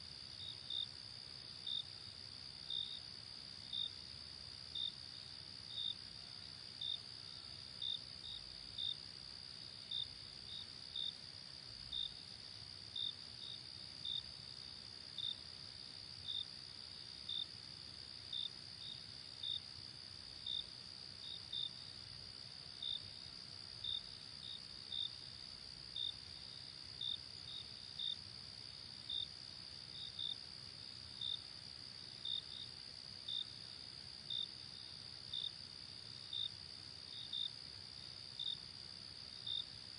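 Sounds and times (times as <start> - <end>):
cricket chirping: 0.0 - 39.9
faint background hiss: 0.0 - 39.9.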